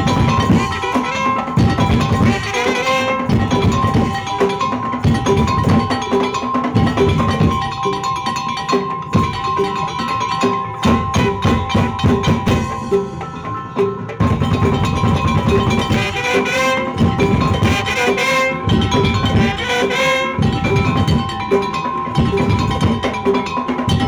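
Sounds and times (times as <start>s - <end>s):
drums and percussion beat: 0.0s - 24.0s.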